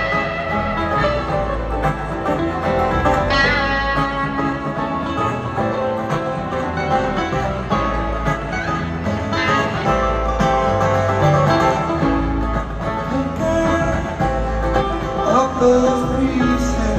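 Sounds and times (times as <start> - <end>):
bluegrass band playing live: 0.0 - 16.9
picked guitar: 0.0 - 16.9.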